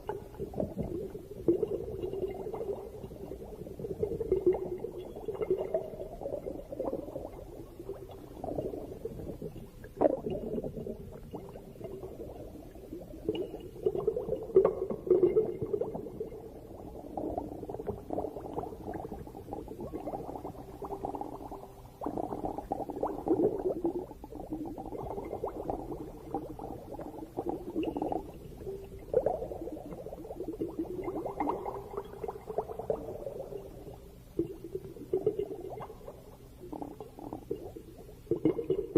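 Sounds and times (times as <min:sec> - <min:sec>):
underwater bubbling and gurgling: 0:00.0 - 0:38.9.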